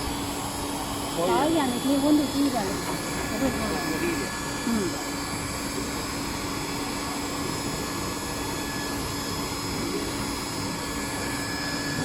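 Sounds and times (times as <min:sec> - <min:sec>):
hot-air blower humming: 0:00.0 - 0:12.0.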